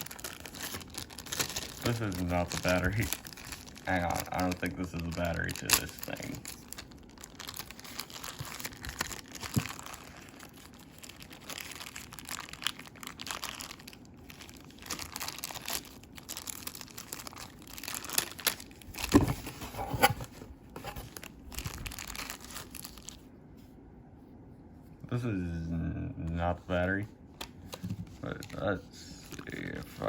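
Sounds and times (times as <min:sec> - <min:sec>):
packaging crinkling and rustling: 0:00.0 - 0:23.3, 0:26.8 - 0:30.0.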